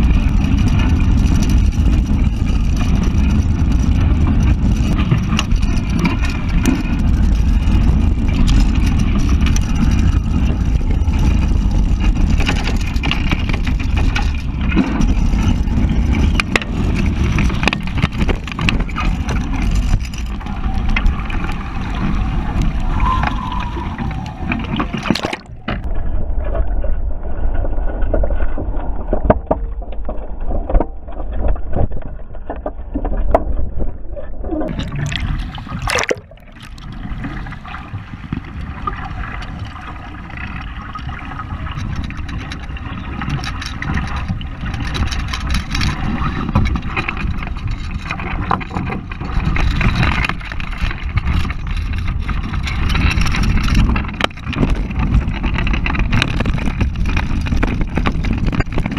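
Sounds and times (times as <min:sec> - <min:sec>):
water splashing and sloshing: 0:00.0 - 0:58.9
wind buffeting microphone: 0:00.0 - 0:58.9.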